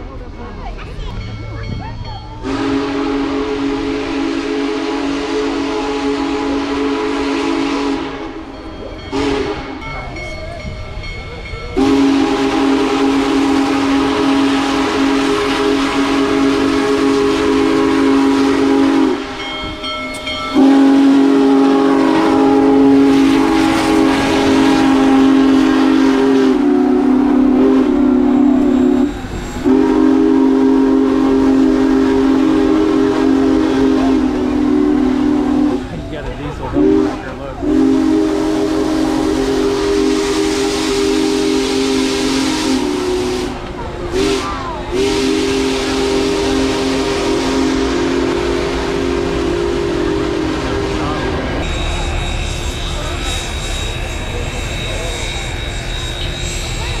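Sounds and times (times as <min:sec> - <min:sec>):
steam locomotive passing: 0:00.0 - 0:57.0
deep steam whistle blasts: 0:02.4 - 0:08.5, 0:09.1 - 0:09.8, 0:11.8 - 0:35.9, 0:36.8 - 0:57.0.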